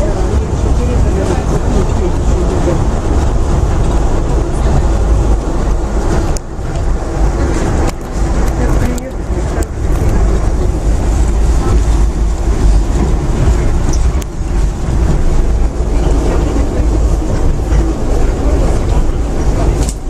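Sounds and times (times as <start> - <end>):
monorail train rumbling: 0.0 - 20.0.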